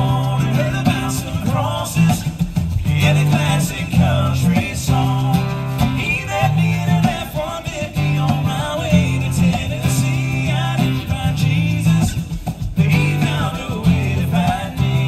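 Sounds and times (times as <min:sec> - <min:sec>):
acoustic guitars strumming: 0:00.0 - 0:15.0
lead singer singing: 0:00.0 - 0:15.0.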